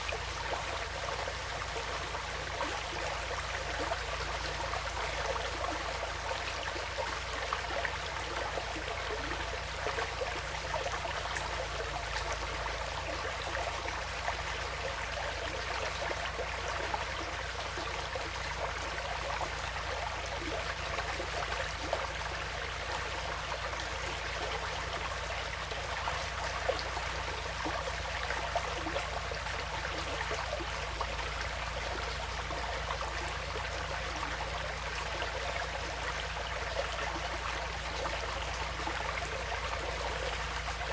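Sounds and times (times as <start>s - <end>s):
small water splashes: 0.0s - 40.9s
stream flowing: 0.0s - 40.9s.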